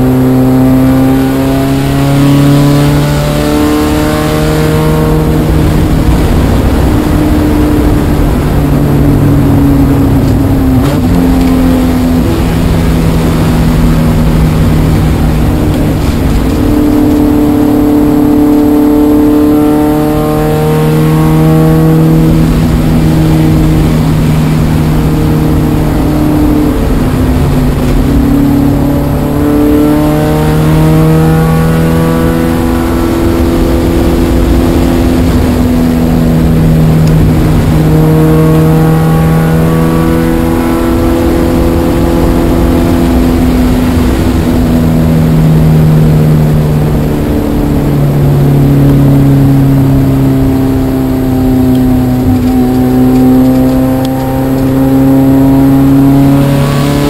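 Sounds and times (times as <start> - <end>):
car engine revving on track: 0.0 - 57.0.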